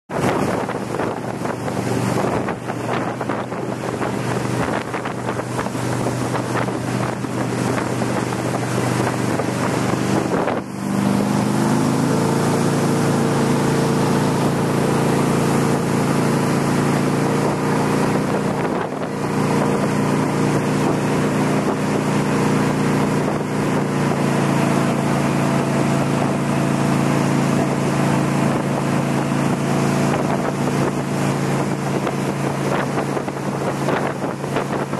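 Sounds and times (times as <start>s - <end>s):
boat motor running: 0.1s - 34.9s
water rushing past hull: 0.1s - 34.9s
wind buffeting microphone: 0.1s - 34.9s.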